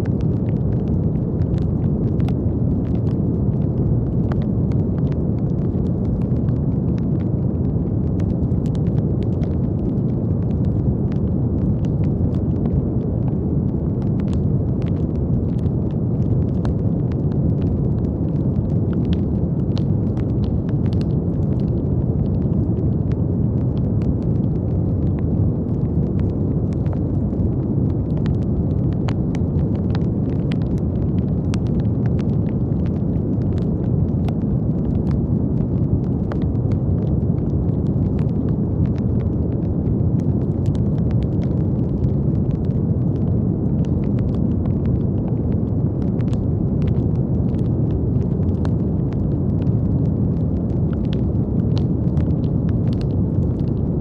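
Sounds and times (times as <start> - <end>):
brown noise rumbling hiss: 0.0 - 54.0
faint crackles: 0.0 - 54.0.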